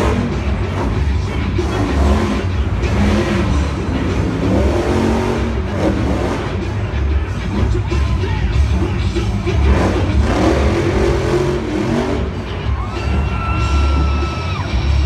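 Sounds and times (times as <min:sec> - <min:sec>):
arena music: 0:00.0 - 0:15.0
crowd: 0:00.0 - 0:15.0
monster truck engine revving: 0:00.0 - 0:15.0.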